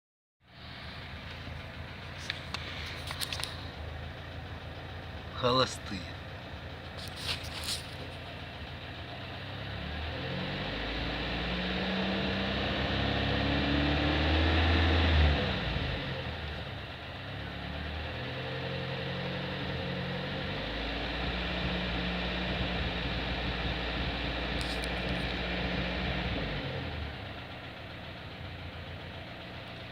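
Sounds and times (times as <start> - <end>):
car engine idling: 0.4 - 12.9, 15.5 - 29.9.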